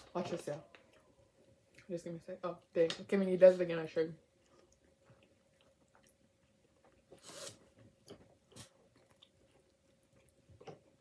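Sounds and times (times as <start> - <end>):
chewing and crunching food: 0.0 - 11.0
faint steady hum: 0.0 - 11.0.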